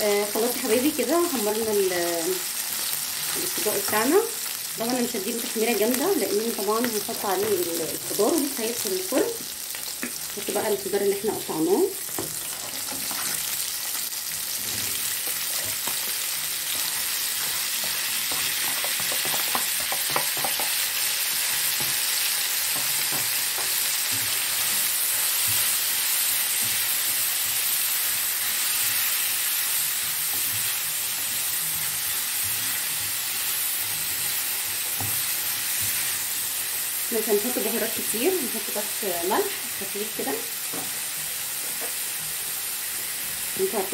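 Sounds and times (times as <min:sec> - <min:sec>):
food sizzling in pan: 0:00.0 - 0:43.9.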